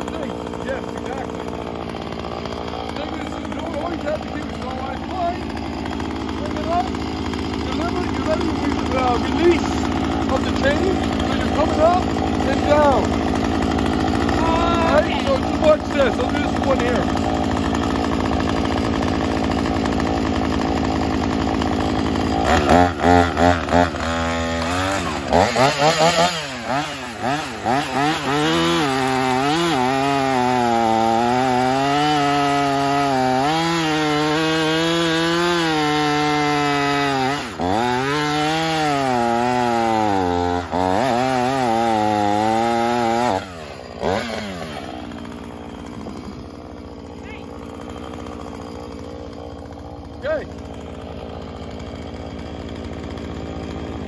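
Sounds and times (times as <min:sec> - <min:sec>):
chainsaw cutting through log: 0:00.0 - 0:54.0
chainsaw running: 0:00.0 - 0:54.0.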